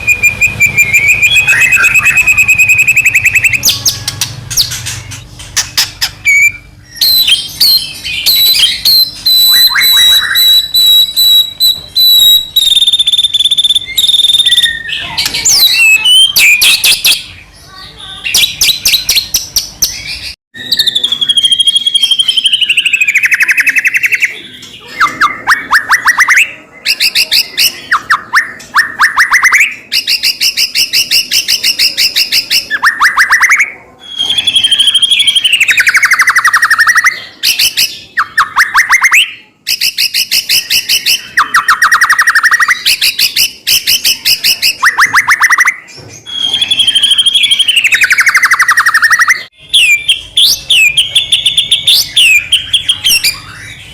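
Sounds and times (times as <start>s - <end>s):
songbird trills and whistles: 0.0s - 4.8s, 5.6s - 17.3s, 20.0s - 53.9s.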